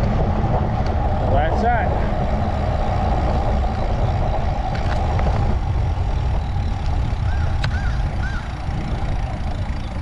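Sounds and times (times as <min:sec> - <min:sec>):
road traffic rumbling: 0:00.0 - 0:10.0.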